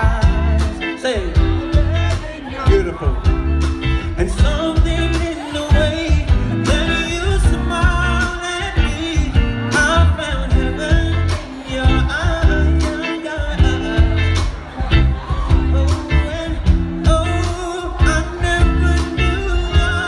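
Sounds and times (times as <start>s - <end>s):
bass guitar: 0.0s - 20.0s
drums: 0.0s - 20.0s
electric guitar: 0.0s - 20.0s
man singing: 0.0s - 20.0s.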